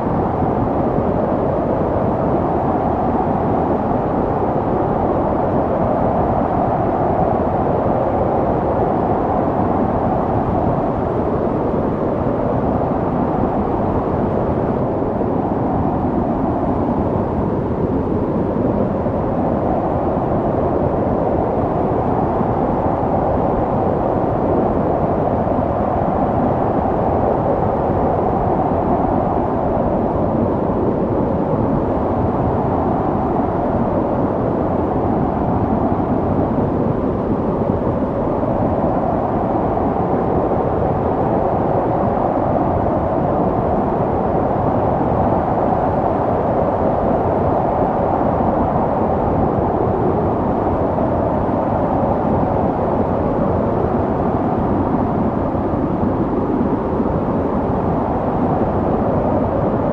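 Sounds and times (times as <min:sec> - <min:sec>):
snowstorm wind blowing: 0:00.0 - 0:59.9.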